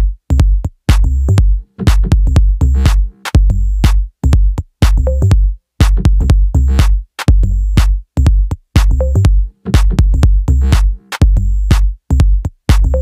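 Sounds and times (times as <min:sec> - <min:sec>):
electronic dance music: 0:00.0 - 0:13.0.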